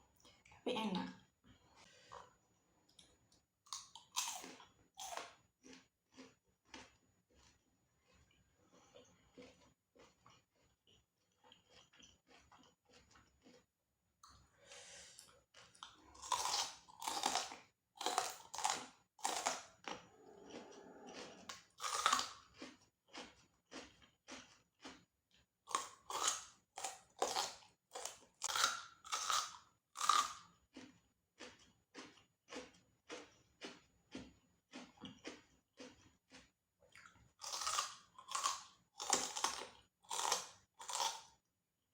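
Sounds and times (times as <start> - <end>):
chewing crunchy fried food: 1.4 - 41.6.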